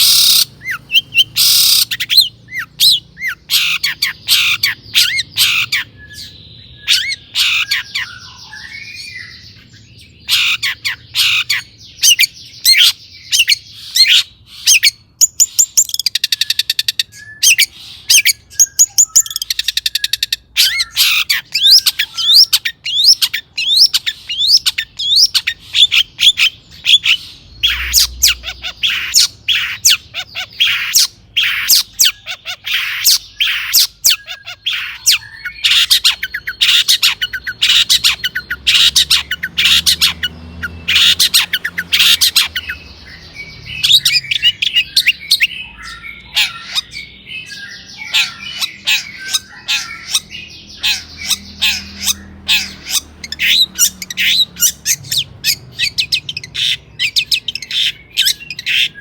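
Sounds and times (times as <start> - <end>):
shrike singing: 0.0 - 59.0.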